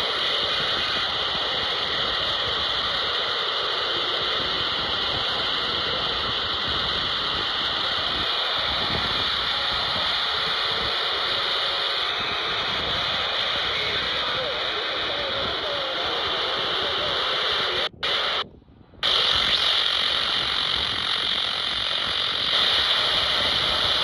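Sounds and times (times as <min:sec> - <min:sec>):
high-pitched data buzzing: 0:00.0 - 0:18.4, 0:19.0 - 0:24.0.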